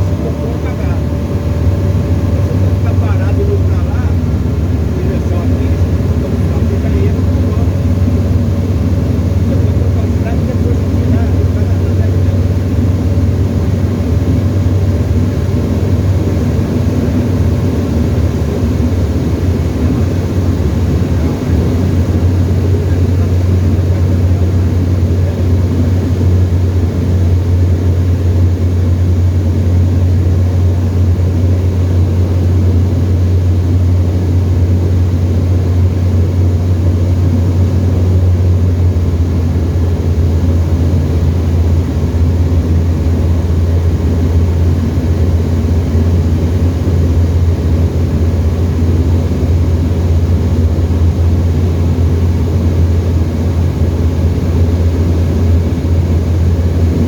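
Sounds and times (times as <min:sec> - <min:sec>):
aeroplane engine drone: 0:00.0 - 0:57.0.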